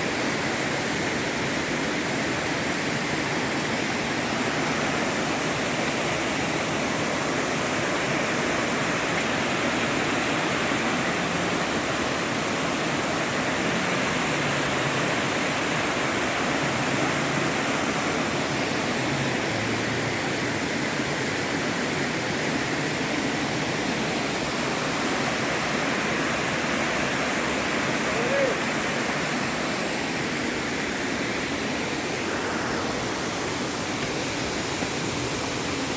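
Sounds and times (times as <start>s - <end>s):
rushing water roar: 0.0s - 35.9s.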